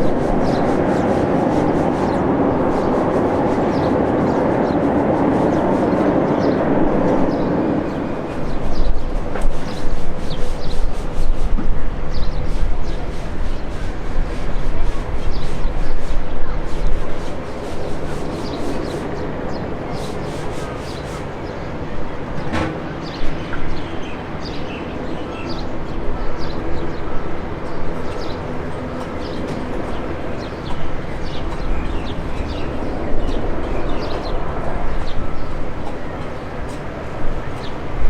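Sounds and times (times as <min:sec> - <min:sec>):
aircraft engines rumbling: 0:00.0 - 0:38.0.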